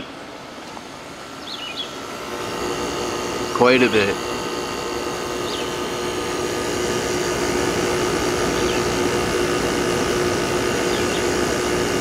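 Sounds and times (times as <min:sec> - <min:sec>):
window air conditioner running: 0:00.0 - 0:12.0.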